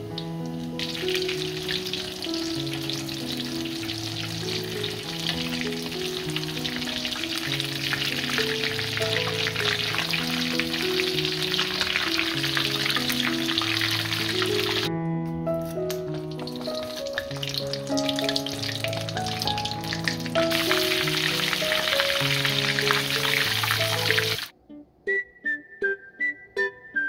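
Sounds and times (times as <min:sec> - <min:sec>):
oil crackling and sizzling: 0:00.0 - 0:14.9, 0:15.6 - 0:24.5
light background music: 0:00.0 - 0:27.0.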